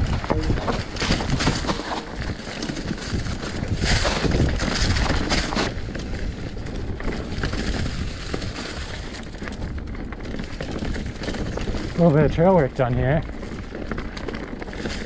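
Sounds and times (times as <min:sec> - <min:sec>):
wind on microphone: 0:00.0 - 0:13.7
bike rattling over bumps: 0:00.0 - 0:15.0
bike tyres through dry leaves: 0:00.0 - 0:15.0.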